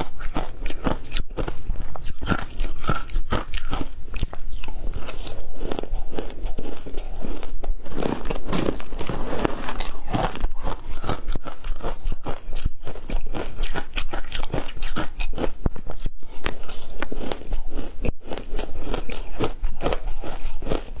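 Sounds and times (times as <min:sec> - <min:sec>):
ice being chewed crunching: 0:00.0 - 0:21.0.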